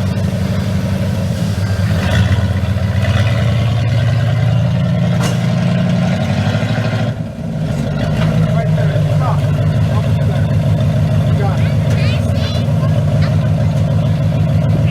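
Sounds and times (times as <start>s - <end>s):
vehicle engine revving: 0.0s - 14.9s.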